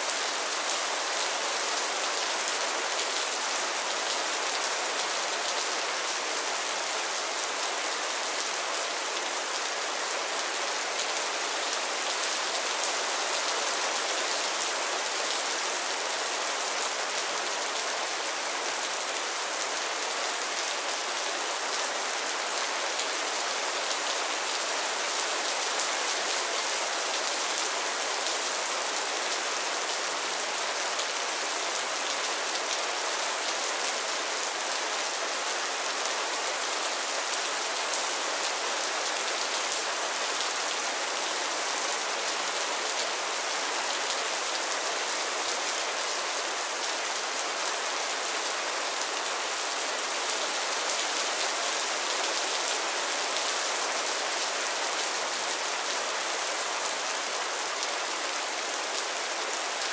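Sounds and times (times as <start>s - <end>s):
rain on roof and ground: 0.0s - 59.9s.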